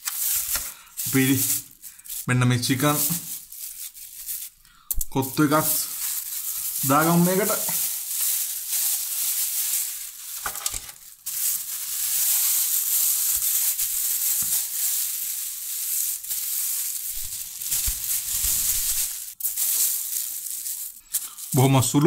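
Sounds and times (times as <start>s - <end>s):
food rustling and scraping: 0.0s - 4.6s, 5.4s - 21.6s.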